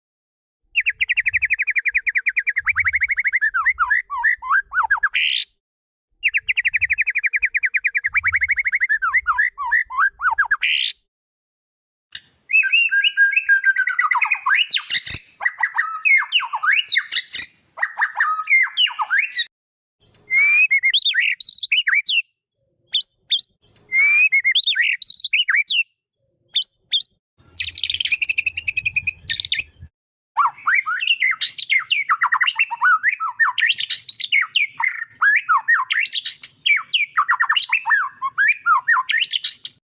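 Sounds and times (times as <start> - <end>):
songbird singing trills and warbles: 0.7 - 5.5, 6.2 - 11.0, 12.2 - 39.8.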